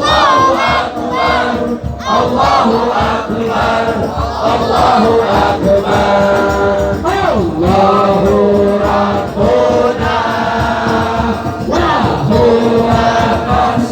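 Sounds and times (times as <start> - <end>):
group chanting devotional chant: 0.0 - 13.9.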